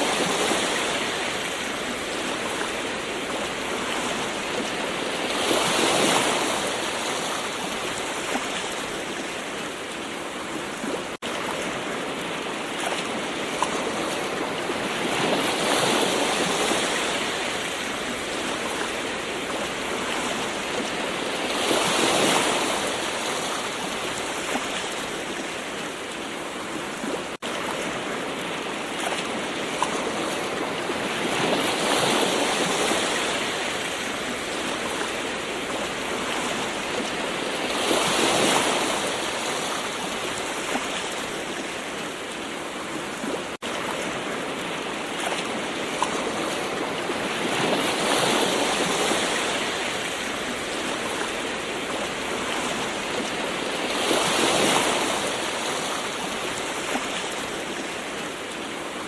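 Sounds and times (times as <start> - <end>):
ocean waves surf: 0.0 - 59.0.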